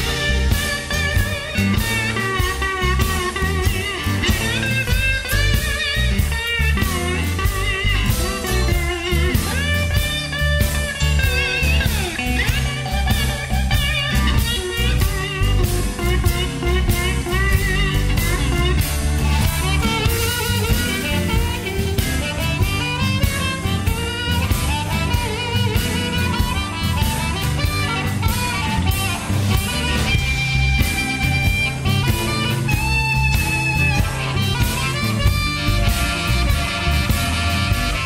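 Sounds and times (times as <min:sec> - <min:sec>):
blues-rock guitar bending notes: 0:00.0 - 0:38.0
steady drum beat: 0:00.0 - 0:38.0.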